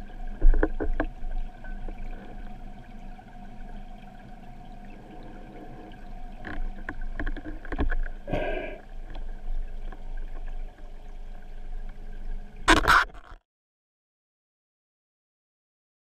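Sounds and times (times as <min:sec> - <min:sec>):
underwater hum: 0:00.0 - 0:13.4.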